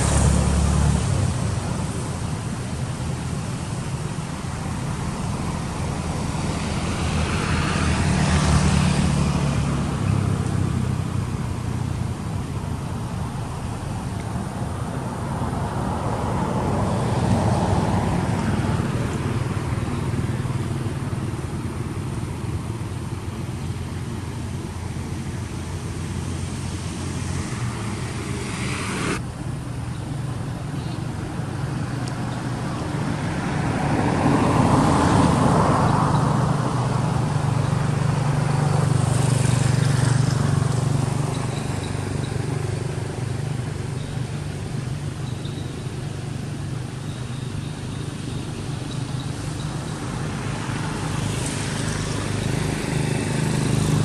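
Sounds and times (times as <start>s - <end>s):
low engine hum: 0.0s - 54.0s
vehicles passing by: 0.0s - 54.0s.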